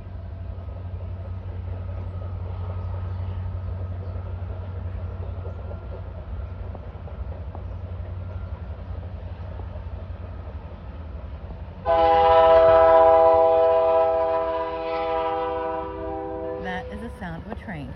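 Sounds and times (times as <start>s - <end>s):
train rumbling and clattering: 0.0s - 17.9s.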